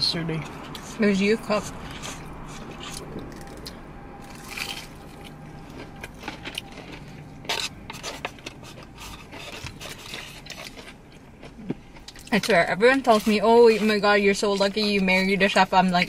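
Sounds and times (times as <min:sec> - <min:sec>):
faint low hum: 0:00.0 - 0:16.0
chewing chicken wings: 0:01.8 - 0:15.2.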